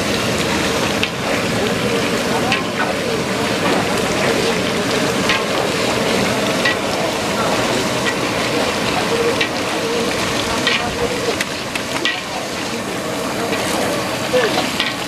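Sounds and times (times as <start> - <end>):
oil popping and spattering: 0.0 - 15.0
spices sizzling in hot oil: 0.0 - 15.0.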